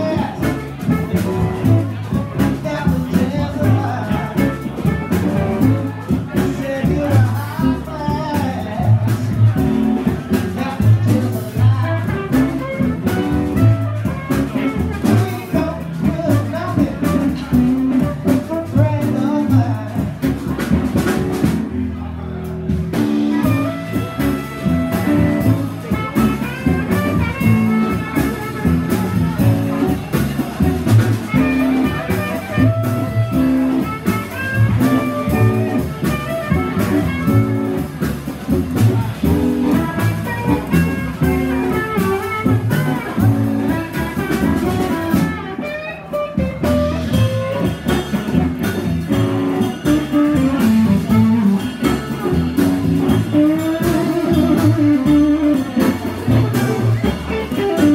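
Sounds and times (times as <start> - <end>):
blues band playing: 0.0 - 57.9
drum and bass groove: 0.0 - 57.9.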